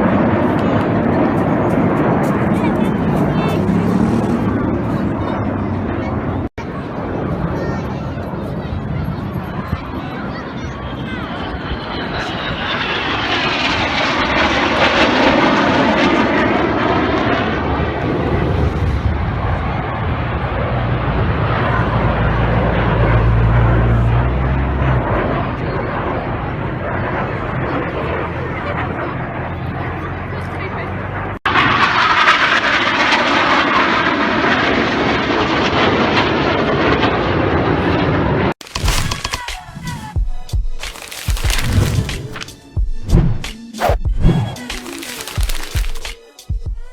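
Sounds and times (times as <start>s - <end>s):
jet engines roaring overhead: 0.0s - 38.5s.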